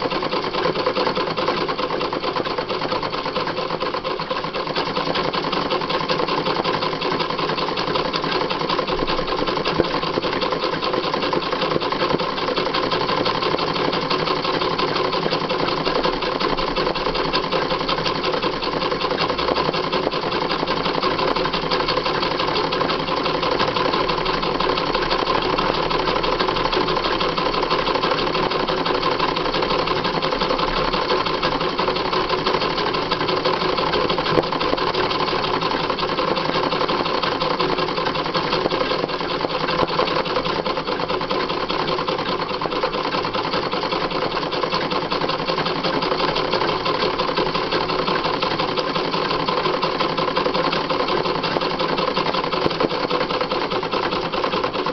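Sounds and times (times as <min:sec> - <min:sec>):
sewing machine running: 0:00.0 - 0:54.9.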